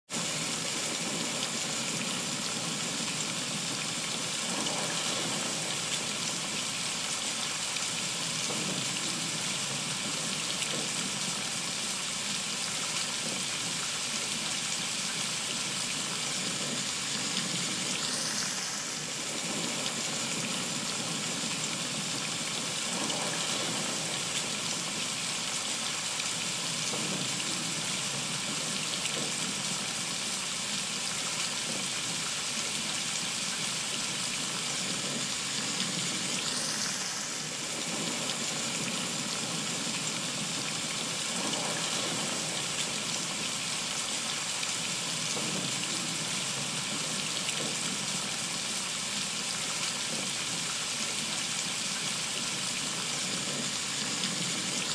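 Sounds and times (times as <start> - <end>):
heavy rain on trees and deck: 0.1 - 54.9.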